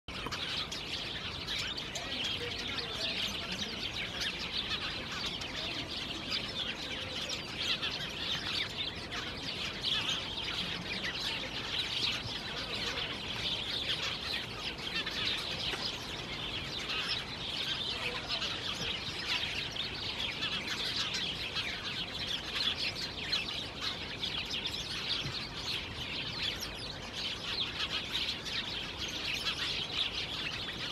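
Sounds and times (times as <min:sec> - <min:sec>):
sparrows chirping: 0:00.1 - 0:30.9.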